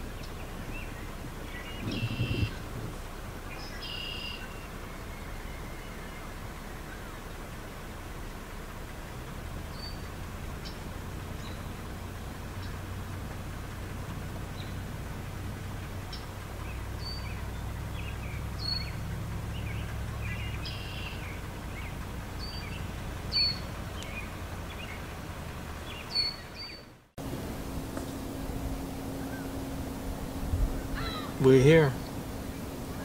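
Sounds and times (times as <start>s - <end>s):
small birds chirping: 0.0s - 7.4s, 9.7s - 12.9s, 14.4s - 15.0s, 15.8s - 27.0s, 27.8s - 33.0s
steady low hum: 0.0s - 33.0s.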